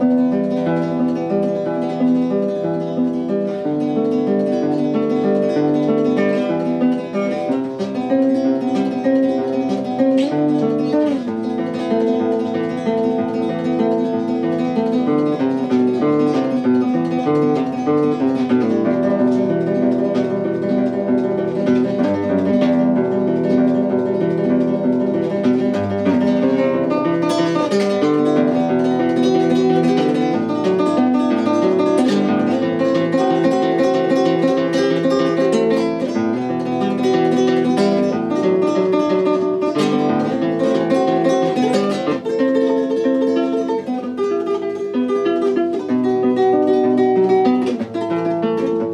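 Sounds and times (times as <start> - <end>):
acoustic guitar music: 0.0 - 48.9.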